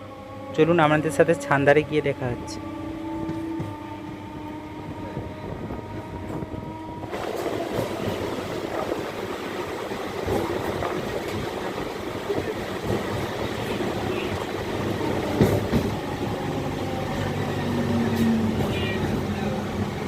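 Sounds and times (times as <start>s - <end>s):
train carriage rumbling on track: 0.0s - 20.0s
train electric hum: 0.0s - 20.0s.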